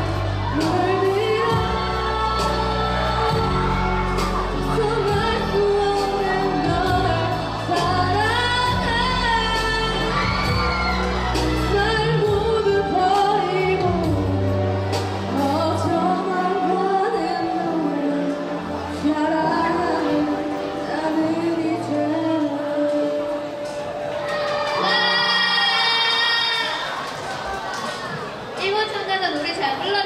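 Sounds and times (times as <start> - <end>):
girl singing into microphone: 0.5 - 10.9, 11.6 - 14.5, 15.3 - 26.9.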